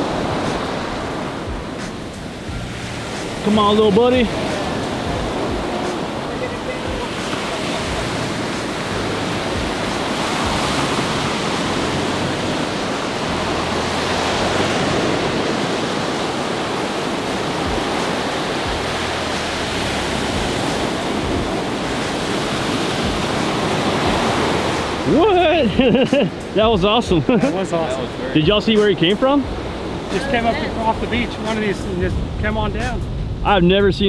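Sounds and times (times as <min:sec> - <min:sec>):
surf washing over sand: 0:00.0 - 0:34.0.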